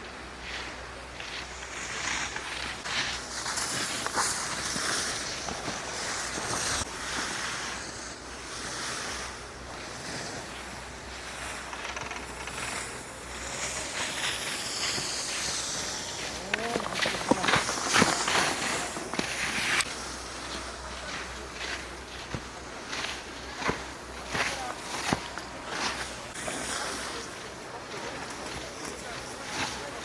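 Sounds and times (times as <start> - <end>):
skis scraping on snow: 0.0 - 30.0.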